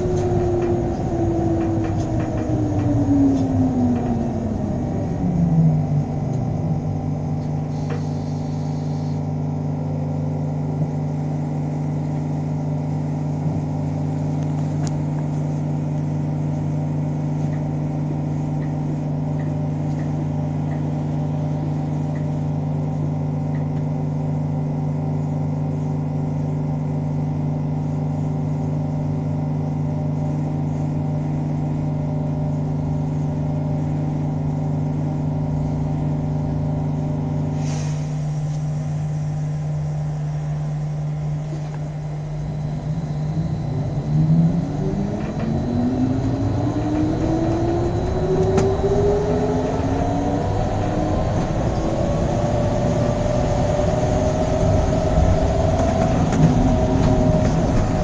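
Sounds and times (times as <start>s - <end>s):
electric bus machinery hum: 0.0s - 58.0s.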